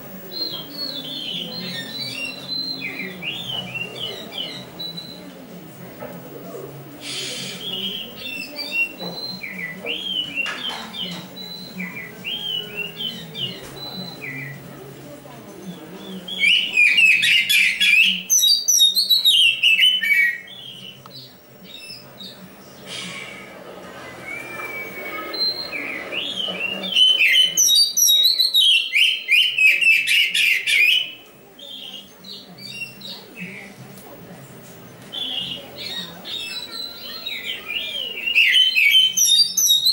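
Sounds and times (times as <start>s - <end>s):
bird singing whistled notes: 0.3s - 5.2s, 7.4s - 14.6s, 16.0s - 22.4s, 24.2s - 33.5s, 35.1s - 39.9s.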